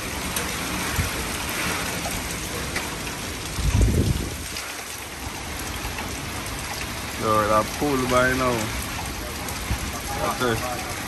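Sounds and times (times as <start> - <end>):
rain and wind in trees: 0.0 - 11.0.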